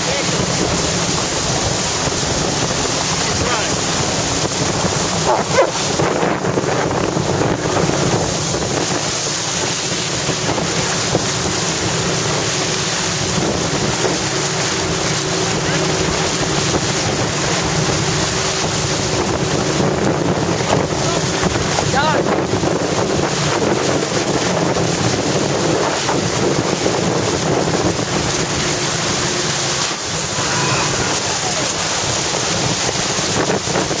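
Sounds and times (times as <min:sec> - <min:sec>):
rushing splashing water: 0:00.0 - 0:34.0
wind buffeting microphone: 0:00.0 - 0:34.0.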